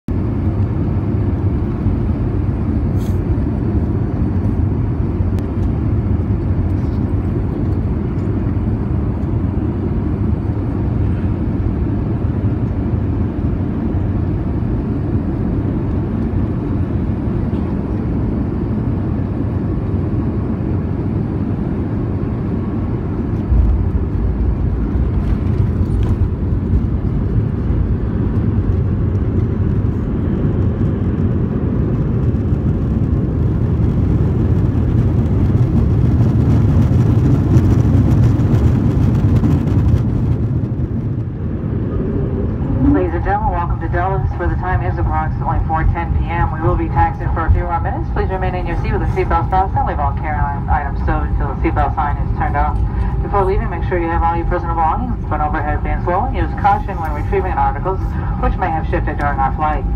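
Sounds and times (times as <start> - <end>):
airplane cabin engine rumble: 0.1 - 59.9.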